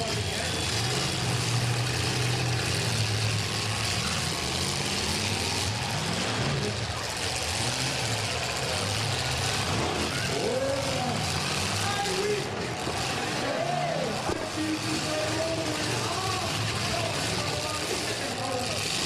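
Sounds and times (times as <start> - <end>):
car engines droning: 0.0 - 19.0.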